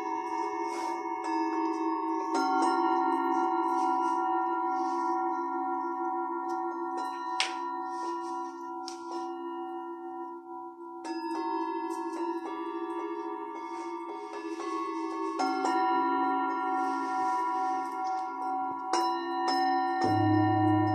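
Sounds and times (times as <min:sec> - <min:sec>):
singing bowls ringing: 0:00.0 - 0:20.9.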